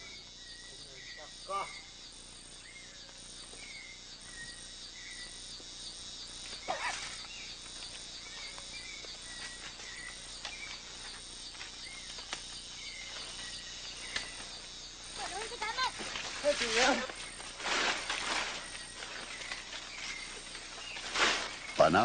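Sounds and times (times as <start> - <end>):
insects pulsing: 0.0 - 22.0.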